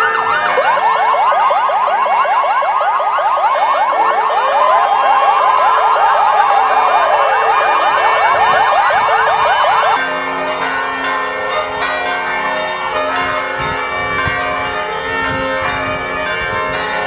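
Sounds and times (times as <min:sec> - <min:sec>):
ambulance sirens yelping and wailing: 0:00.0 - 0:17.0.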